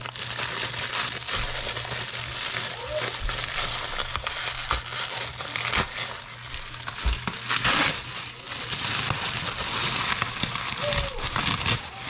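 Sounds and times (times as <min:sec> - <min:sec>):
foil and plastic wrapping crinkling: 0:00.0 - 0:12.0.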